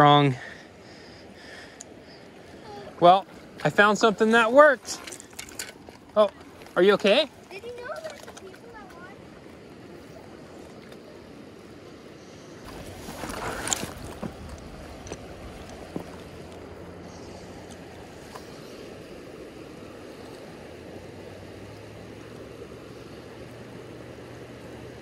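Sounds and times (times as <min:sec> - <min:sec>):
river rushing over rocks: 0:02.4 - 0:25.0.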